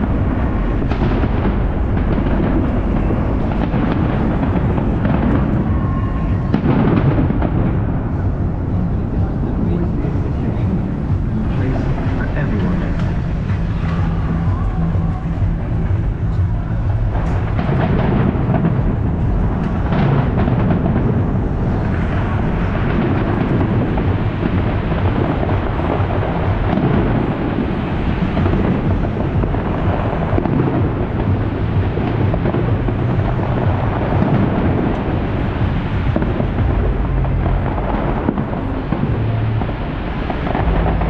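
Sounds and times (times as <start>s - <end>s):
fireworks booming: 0.0s - 41.0s.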